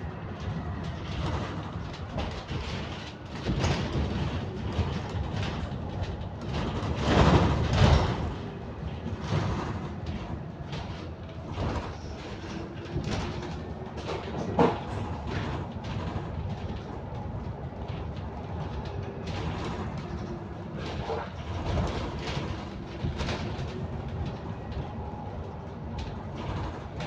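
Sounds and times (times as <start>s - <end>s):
bus engine and road noise: 0.0s - 27.0s
rattles and knocks: 0.4s - 27.0s.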